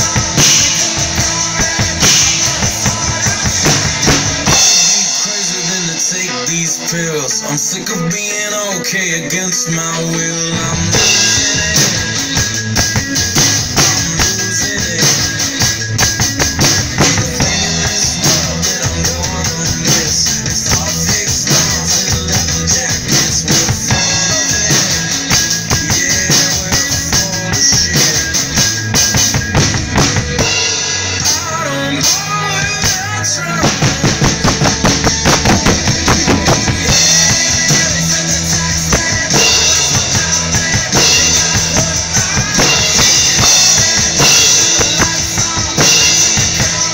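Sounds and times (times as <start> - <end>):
drum kit played with sticks: 0.0 - 46.9
recorded rock song: 0.0 - 46.9.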